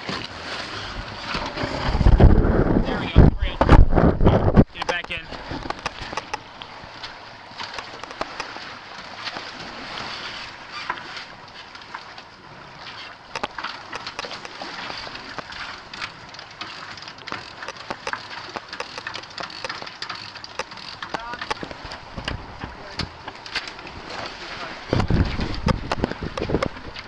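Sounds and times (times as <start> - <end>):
wind and water rushing: 0.0 - 27.0.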